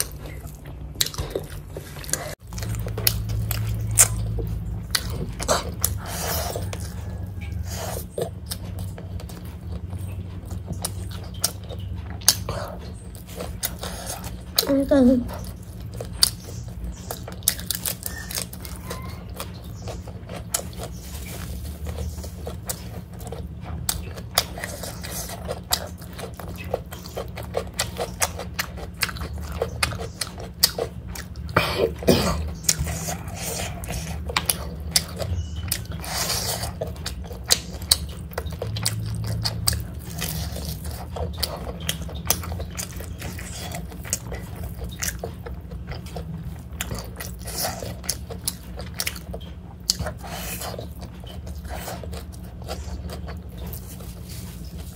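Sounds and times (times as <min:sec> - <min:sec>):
person chewing and biting: 0:00.0 - 0:14.7, 0:15.3 - 0:54.9
steady low hum: 0:00.0 - 0:54.9.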